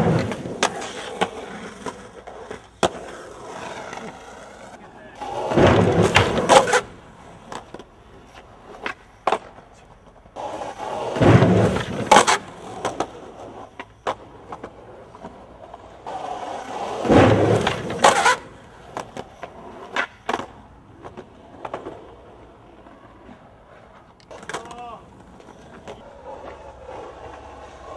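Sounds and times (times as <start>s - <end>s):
skateboard clacking and slapping: 0.0s - 27.9s
skateboard wheels rolling: 0.0s - 27.9s.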